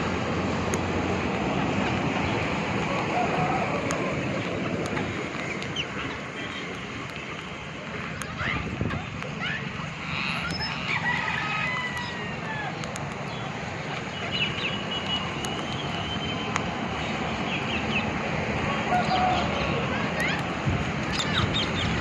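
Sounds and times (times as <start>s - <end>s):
birds chirping: 1.8s - 22.0s.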